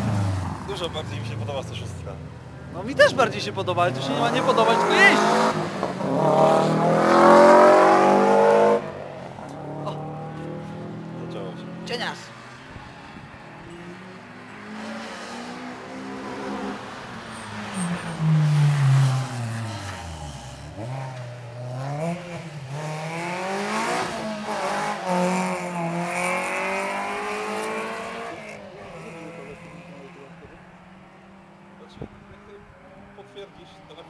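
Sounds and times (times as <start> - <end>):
car engine revving: 0.0 - 12.3, 12.9 - 33.4.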